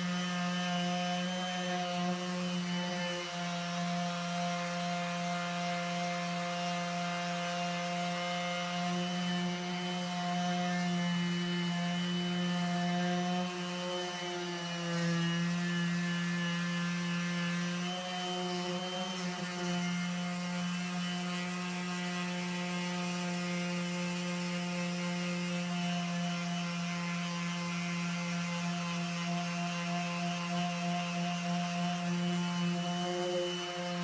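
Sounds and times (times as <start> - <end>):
electric sander humming: 0.0 - 34.0.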